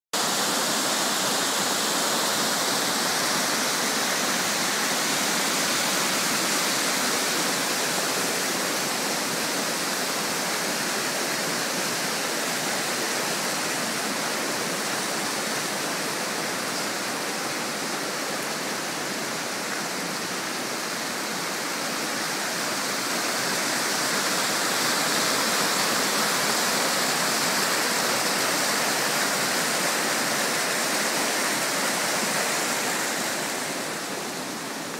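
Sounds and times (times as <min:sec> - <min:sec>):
stream rushing over rocks: 0:00.2 - 0:34.9.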